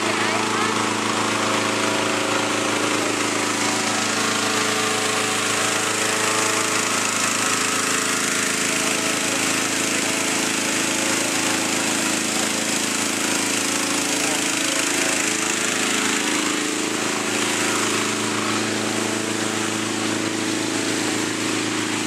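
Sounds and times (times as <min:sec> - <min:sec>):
engine-driven fan running: 0:00.0 - 0:22.0.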